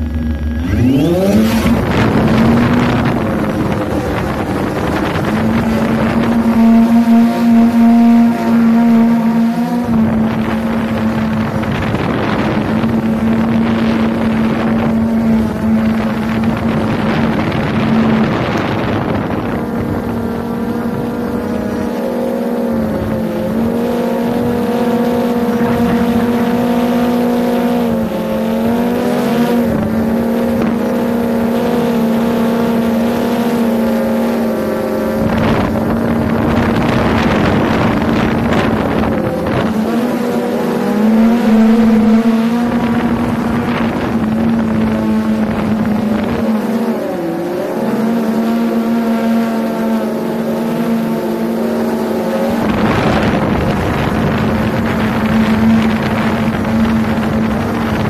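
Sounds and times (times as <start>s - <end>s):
drone propellers buzzing: 0.0s - 58.0s
wind on microphone: 0.0s - 58.0s.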